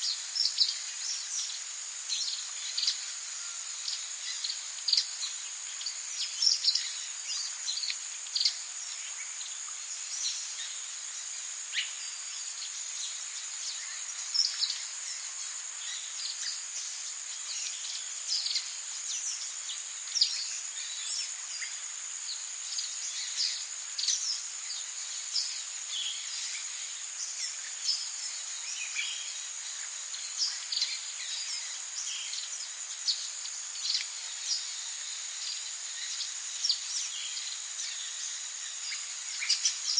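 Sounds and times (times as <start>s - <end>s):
high-pitched insect drone: 0.0s - 39.9s
soft rain hiss: 0.0s - 39.9s.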